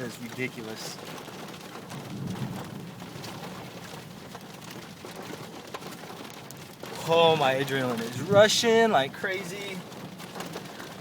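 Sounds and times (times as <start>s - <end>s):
raindrop clicks: 0.0s - 11.0s
steady rain: 0.0s - 11.0s.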